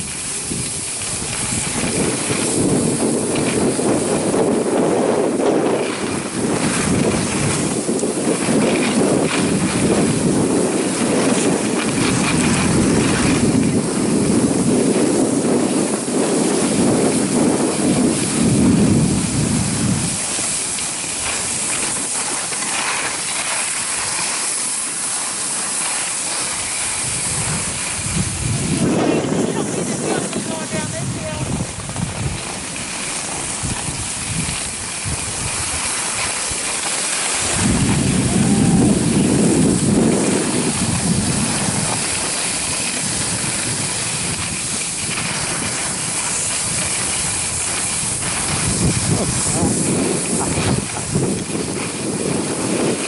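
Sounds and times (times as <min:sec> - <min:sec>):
skis scraping over snow: 0:00.0 - 0:53.0
wind on microphone: 0:00.0 - 0:53.0.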